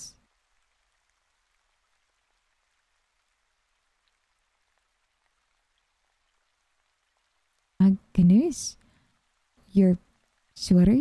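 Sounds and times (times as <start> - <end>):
faint steady rain: 0.0 - 11.0.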